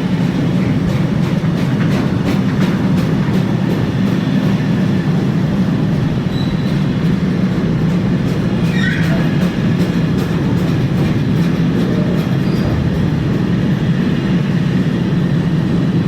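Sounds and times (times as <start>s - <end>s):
high squeal of train: 0.0s - 16.0s
train wheels rumbling on rails: 0.0s - 16.0s.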